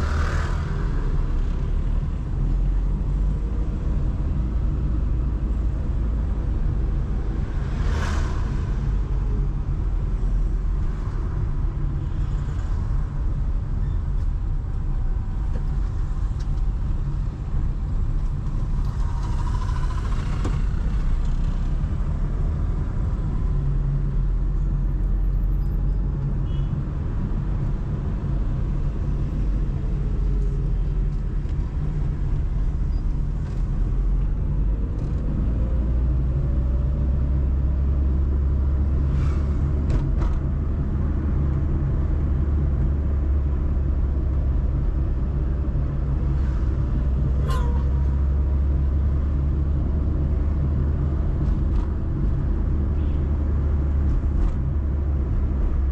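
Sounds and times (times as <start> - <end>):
car engine and road noise: 0.0 - 55.9
city traffic: 0.0 - 55.9.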